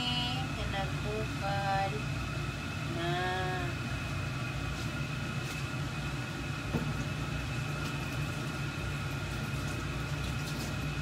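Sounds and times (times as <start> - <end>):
water boiling in pot: 0.0 - 11.0.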